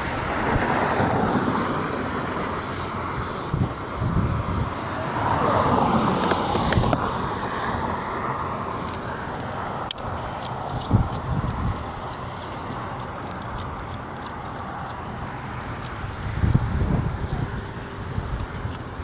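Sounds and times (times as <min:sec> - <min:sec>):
wind buffeting microphone: 0:00.0 - 0:08.1, 0:09.2 - 0:19.0
highway traffic passing: 0:00.0 - 0:19.0.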